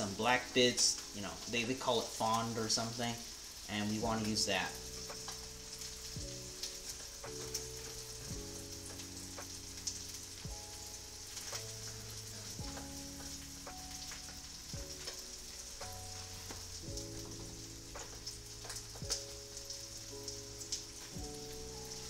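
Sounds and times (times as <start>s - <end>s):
fish sizzling in a frying pan: 0.0s - 22.0s
soft background music: 0.0s - 22.0s.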